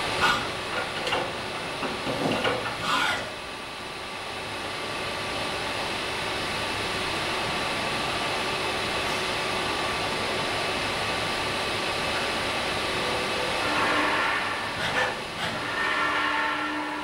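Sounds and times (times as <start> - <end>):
machining spindle hiss and whine: 2.6 - 17.0.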